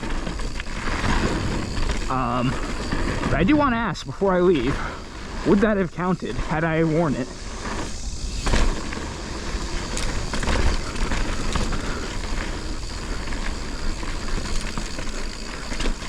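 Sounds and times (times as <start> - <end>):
bike clicks and rattles: 0.0 - 16.0
tyres running over dirt: 0.0 - 16.0.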